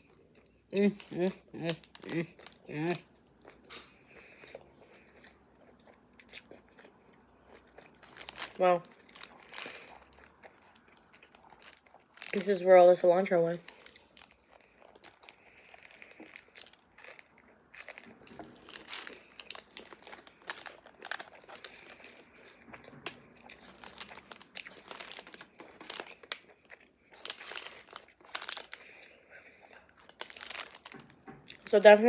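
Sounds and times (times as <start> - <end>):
crunchy bites: 0.0 - 12.5, 13.6 - 31.8
food wrapper crinkling: 0.8 - 4.4, 7.5 - 32.0.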